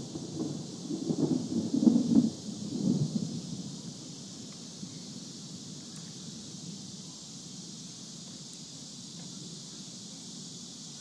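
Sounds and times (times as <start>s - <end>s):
high hiss: 0.0s - 11.0s
wind through trees: 0.0s - 11.0s.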